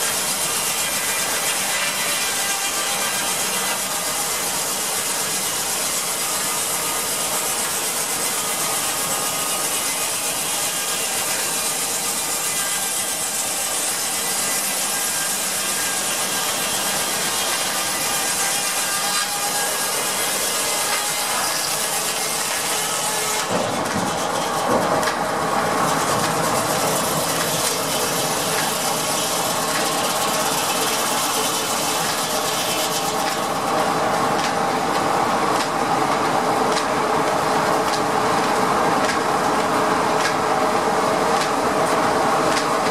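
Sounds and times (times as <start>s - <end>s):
steam sawmill machinery running: 0.0s - 42.9s.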